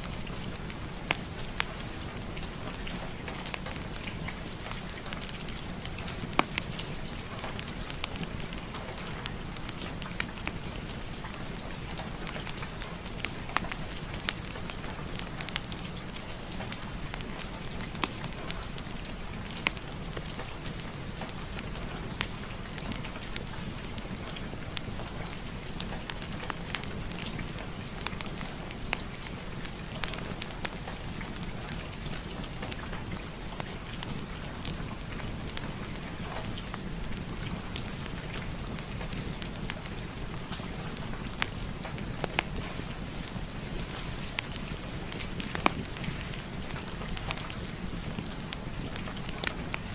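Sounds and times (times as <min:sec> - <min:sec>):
fireplace fire crackling: 0:00.0 - 0:49.9
steady rain: 0:00.0 - 0:49.9.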